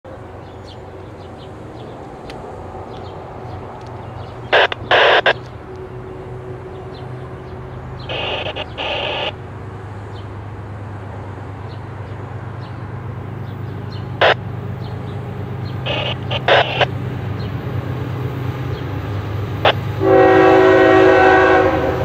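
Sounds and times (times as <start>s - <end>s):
diesel locomotive engines droning: 0.1s - 22.0s.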